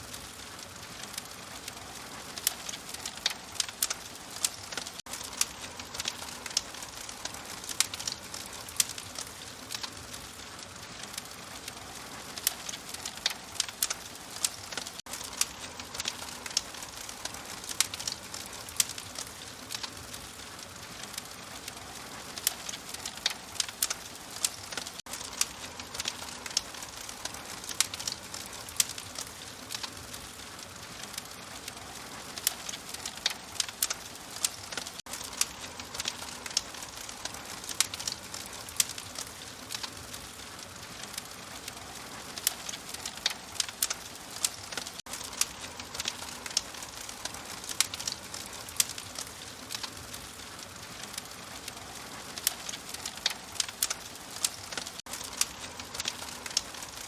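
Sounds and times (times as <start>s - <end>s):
open fire crackling and popping: 0.0s - 57.0s.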